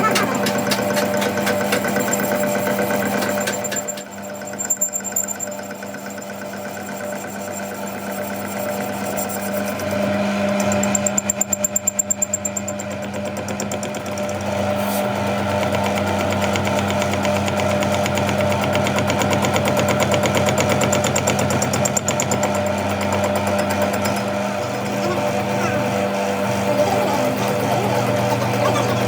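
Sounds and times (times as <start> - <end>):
machine humming with rapid pulsing: 0.0 - 29.0.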